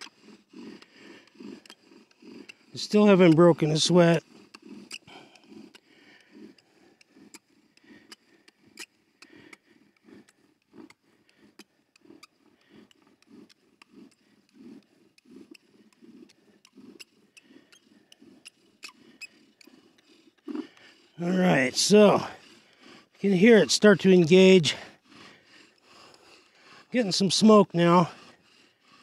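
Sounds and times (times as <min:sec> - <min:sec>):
bow drill grinding on wood: 0:00.0 - 0:29.0.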